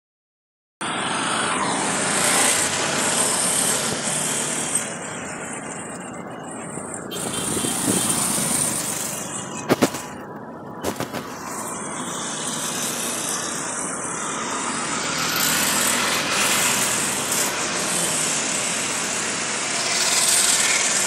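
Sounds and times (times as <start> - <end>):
motorcycle engines: 0.8 - 21.0
tyre and road noise: 0.8 - 21.0.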